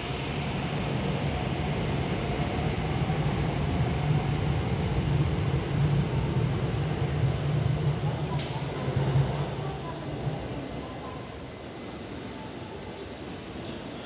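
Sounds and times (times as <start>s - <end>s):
electric train departing: 0.0s - 14.0s.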